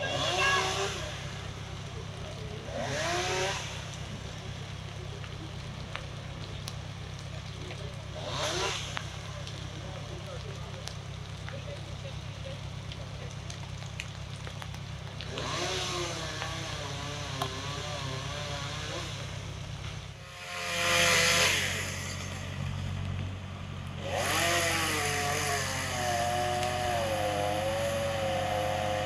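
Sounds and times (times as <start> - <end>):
chainsaw running: 0.0 - 22.9, 24.0 - 29.0
low engine drone: 0.0 - 29.0.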